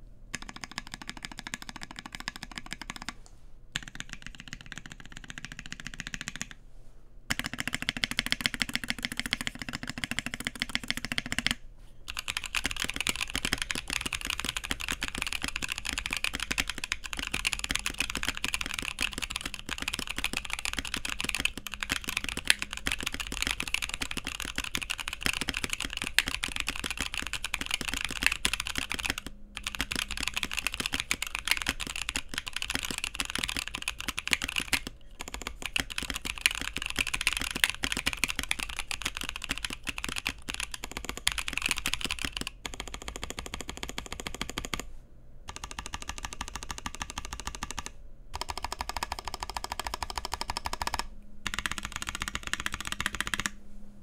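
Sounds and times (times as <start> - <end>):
fast mechanical keyboard typing: 0.3 - 3.2, 3.8 - 6.6, 7.3 - 44.9, 45.5 - 53.6.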